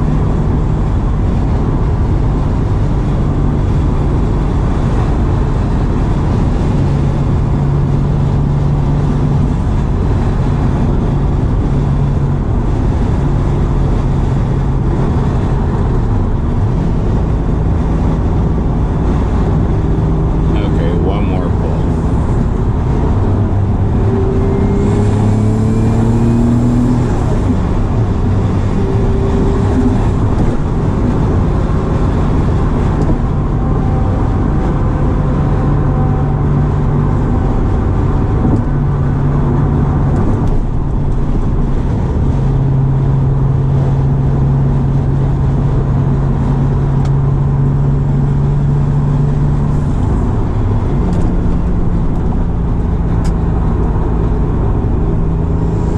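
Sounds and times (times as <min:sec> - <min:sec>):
car engine revving: 0:00.0 - 0:55.9
road and wind noise: 0:00.0 - 0:55.9.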